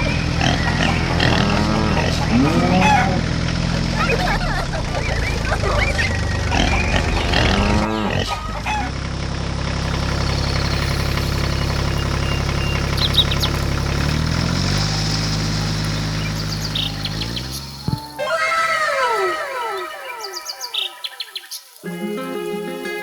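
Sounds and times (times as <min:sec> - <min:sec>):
tractor diesel engine: 0:00.0 - 0:23.0.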